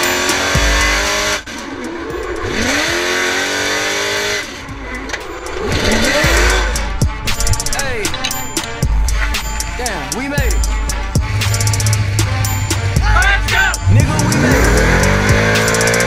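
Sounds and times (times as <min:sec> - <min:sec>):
heavy bass: 0:00.0 - 0:16.0
hip-hop music with swooping tones: 0:00.0 - 0:16.0.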